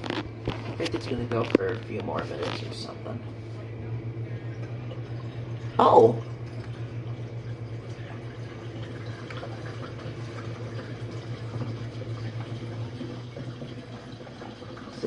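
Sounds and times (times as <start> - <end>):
dishwasher pump hum: 0.0 - 15.0.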